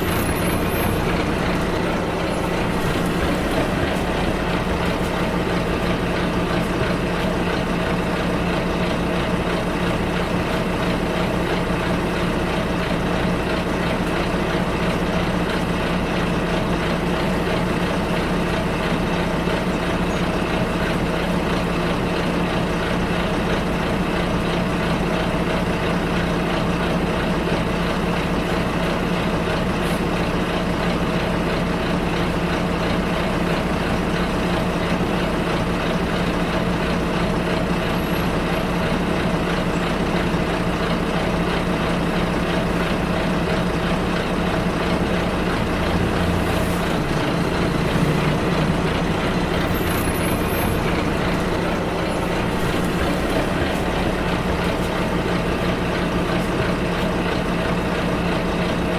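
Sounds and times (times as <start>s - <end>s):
bus engine drone: 0.0s - 58.9s
road noise: 0.0s - 58.9s.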